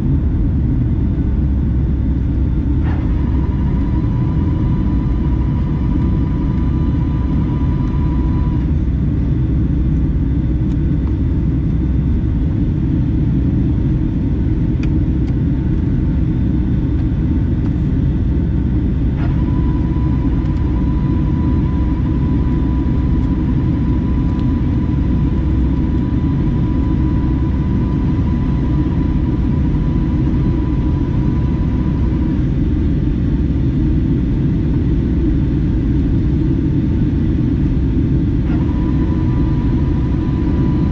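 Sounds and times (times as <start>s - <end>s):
jet engine rumble in cabin: 0.0s - 40.9s.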